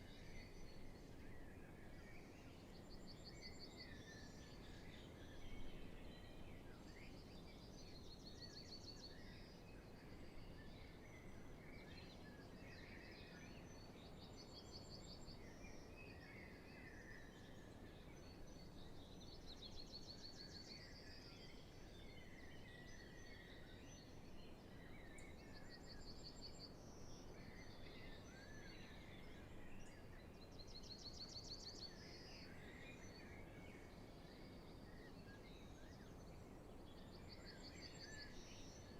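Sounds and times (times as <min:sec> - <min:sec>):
low steady background noise: 0:00.0 - 0:38.9
songbirds singing: 0:00.0 - 0:38.9.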